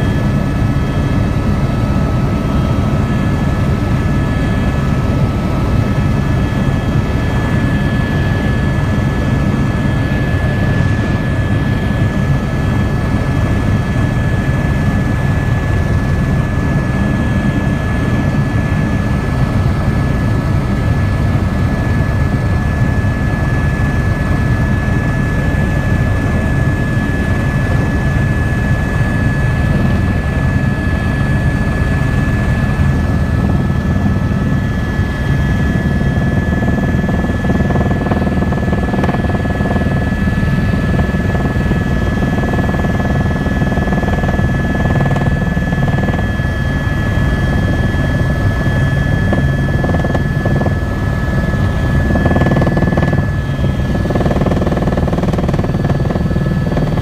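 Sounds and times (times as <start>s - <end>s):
aircraft engine drone: 0.0s - 57.0s
high engine whine: 0.0s - 57.0s.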